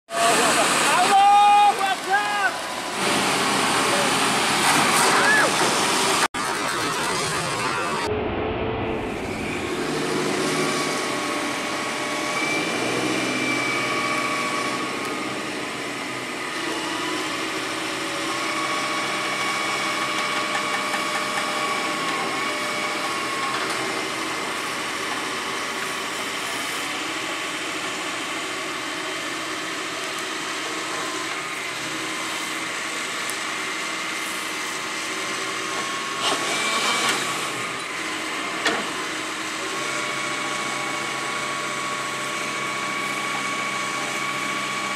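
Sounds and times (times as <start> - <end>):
diesel engine running: 0.1 - 44.9
hydraulic whine: 0.1 - 44.9.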